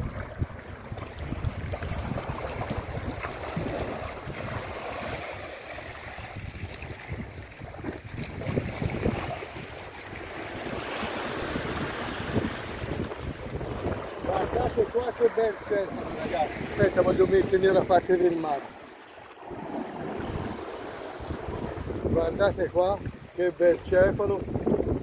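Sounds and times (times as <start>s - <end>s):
wind buffeting microphone: 0.0s - 18.6s, 19.5s - 25.0s
waves lapping against rocks: 0.0s - 25.0s.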